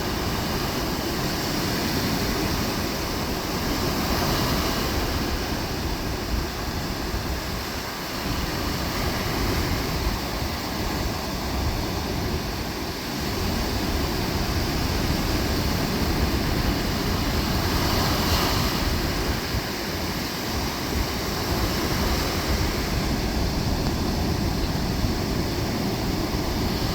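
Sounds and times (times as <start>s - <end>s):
waves breaking on beach: 0.0s - 26.9s
wind rumbling on microphone: 0.0s - 26.9s.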